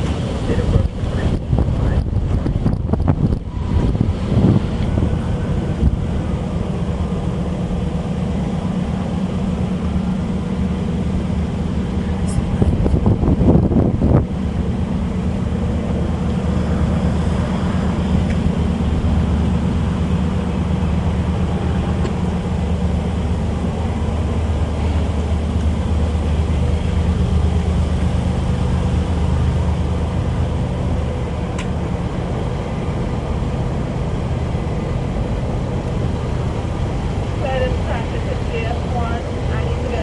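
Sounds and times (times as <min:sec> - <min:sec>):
low engine drone: 0:00.0 - 0:40.0.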